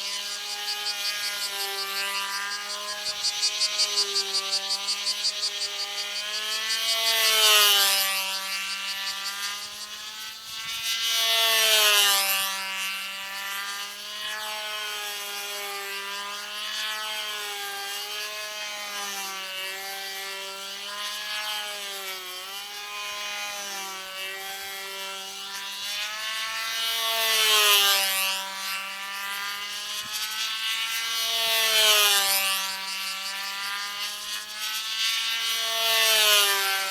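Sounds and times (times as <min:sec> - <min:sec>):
model airplane engine buzzing: 0:00.0 - 0:36.9.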